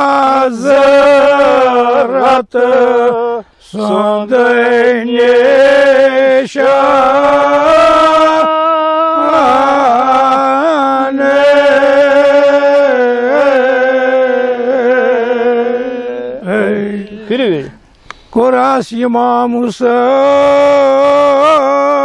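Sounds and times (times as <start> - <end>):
man singing an elegy solo: 0.0 - 17.8, 18.4 - 22.0.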